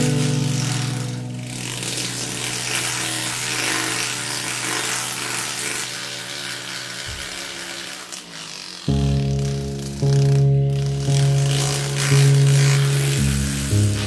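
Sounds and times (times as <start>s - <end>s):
rotary tool whirring: 0.0s - 14.0s.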